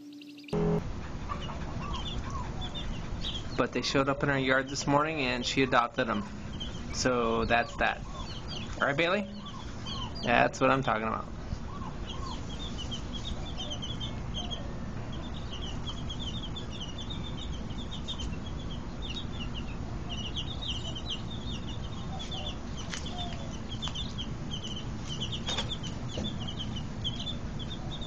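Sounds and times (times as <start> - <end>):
baby chicks peeping: 0.0 - 28.0
low background rumble: 0.6 - 28.0.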